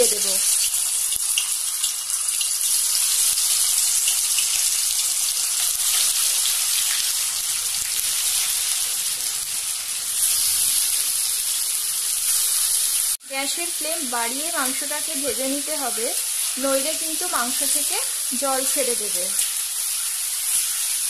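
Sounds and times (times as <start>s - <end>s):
chicken frying in hot oil: 0.0s - 21.0s.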